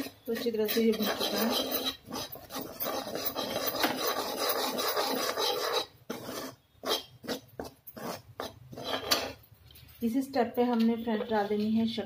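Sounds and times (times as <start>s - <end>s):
spoon scraping metal pan: 0.0s - 12.0s.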